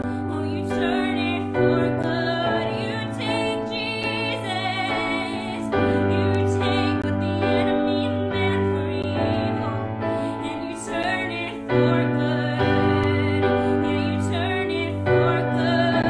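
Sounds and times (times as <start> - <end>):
piano chords: 0.0 - 16.0
woman singing: 0.0 - 16.0.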